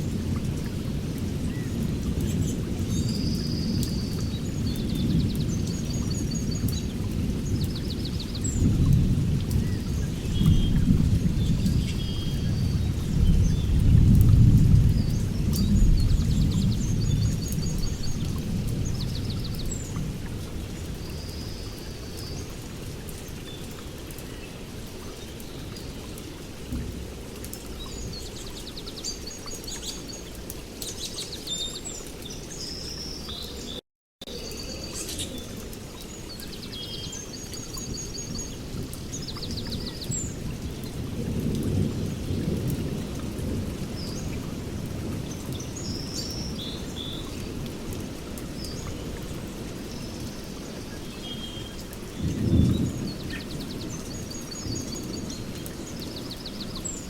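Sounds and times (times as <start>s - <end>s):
small birds chirping: 1.5s - 26.8s, 27.4s - 44.4s, 45.3s - 57.0s.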